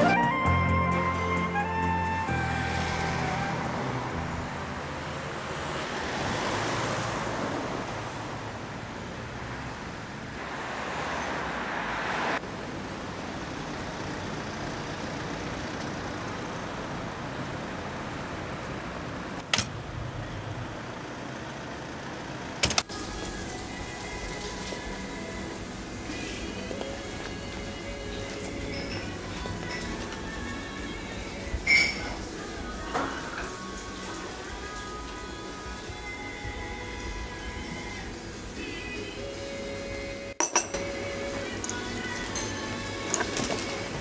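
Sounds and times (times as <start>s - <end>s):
cars passing by: 0.0s - 44.0s.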